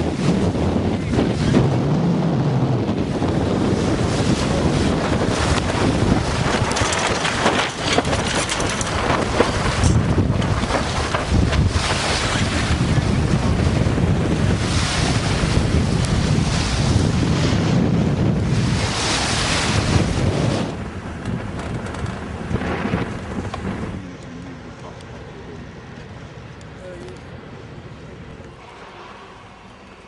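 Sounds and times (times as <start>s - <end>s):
water rushing along hull: 0.0s - 30.0s
wind buffeting microphone: 0.0s - 30.0s.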